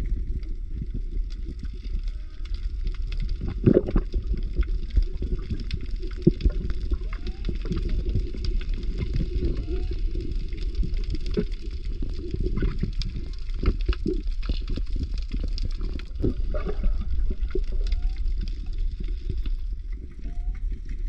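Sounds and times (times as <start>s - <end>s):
bubbling and popping: 0.0s - 21.0s
muffled underwater rumble: 0.0s - 21.0s.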